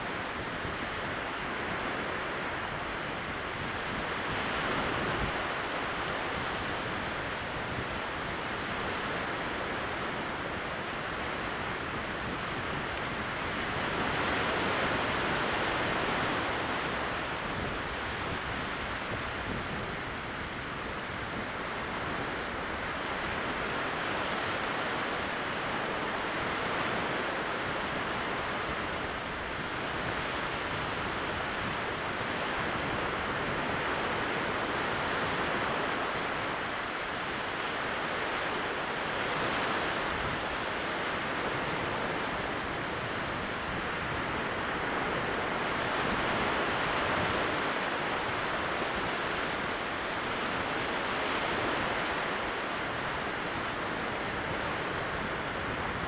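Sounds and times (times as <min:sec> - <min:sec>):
small waves breaking: 0:00.0 - 0:56.0.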